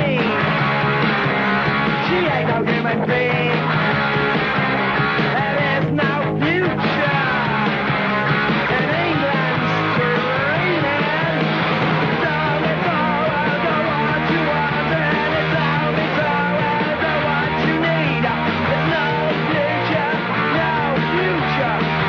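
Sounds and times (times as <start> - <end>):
loud punk rock music: 0.0 - 22.0.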